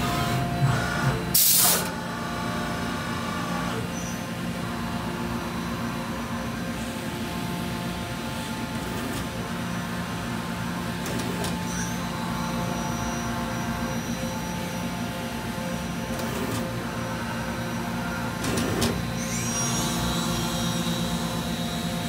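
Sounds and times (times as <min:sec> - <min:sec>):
machining center hum: 0:00.0 - 0:22.0.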